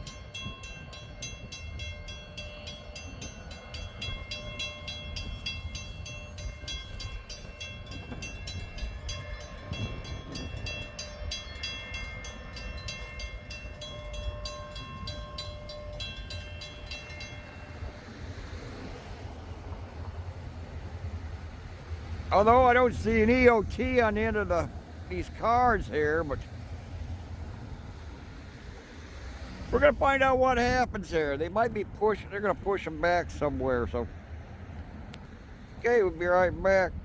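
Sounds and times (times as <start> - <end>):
diesel locomotive engine rumble: 0.0 - 37.0.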